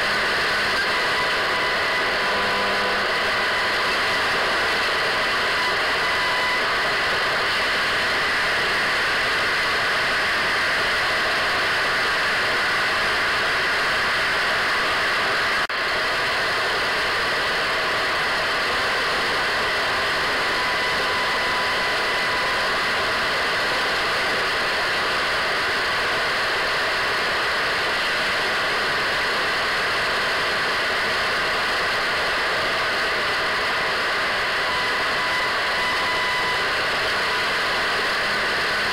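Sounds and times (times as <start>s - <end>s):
radio static hiss: 0.0s - 38.9s.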